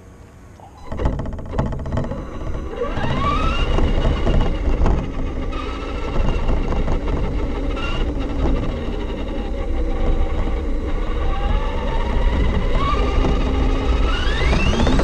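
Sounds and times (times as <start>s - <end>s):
electric motor and gears whining: 0.0s - 15.0s
rumble from driving: 0.0s - 15.0s.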